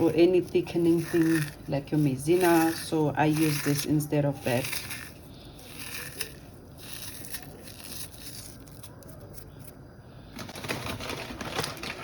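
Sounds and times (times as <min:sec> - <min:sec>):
packet rustling and crinkling: 0:00.0 - 0:12.0.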